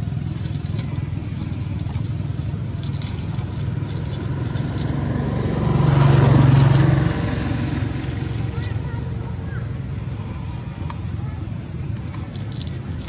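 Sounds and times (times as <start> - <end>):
dry leaves crackling and rustling: 0.0 - 10.8, 12.0 - 13.0.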